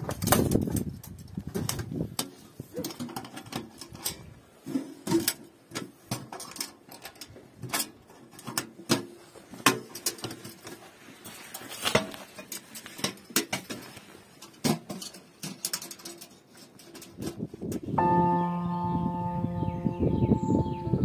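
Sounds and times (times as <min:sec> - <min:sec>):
metal camping stove clicks and knocks: 0:00.0 - 0:10.8, 0:11.8 - 0:17.9
rustle: 0:00.0 - 0:18.4.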